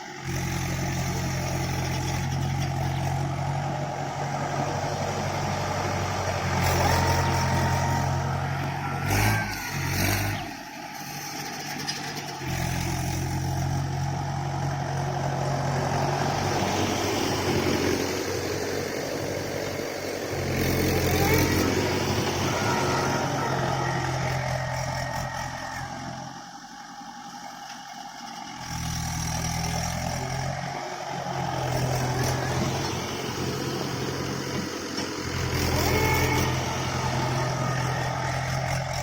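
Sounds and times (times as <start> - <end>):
tractor engine droning: 0.0 - 39.0.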